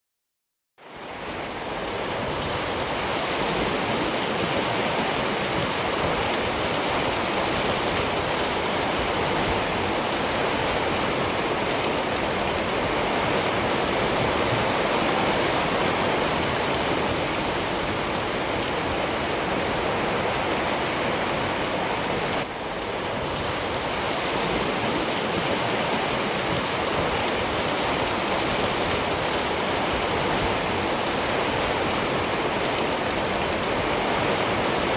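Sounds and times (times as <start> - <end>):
heavy rain: 0.8 - 34.9.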